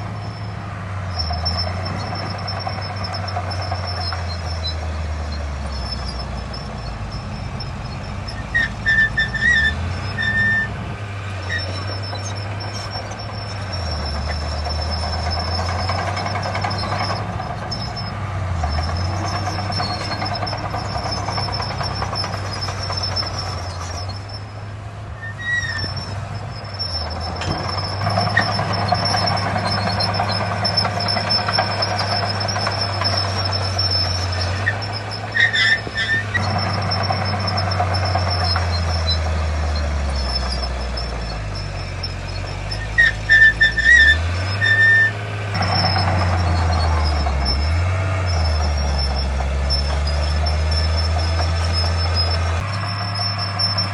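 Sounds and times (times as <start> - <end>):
short high squeals: 0.0 - 10.8, 11.4 - 53.9
diesel engine drone: 0.0 - 53.9.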